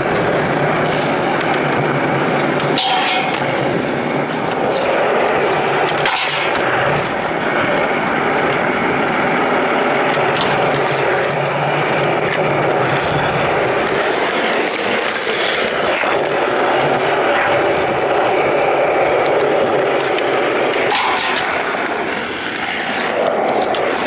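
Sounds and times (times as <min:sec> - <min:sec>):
sharp skateboard clacks: 0:00.0 - 0:24.0
skateboard wheels rolling on asphalt: 0:00.0 - 0:24.0.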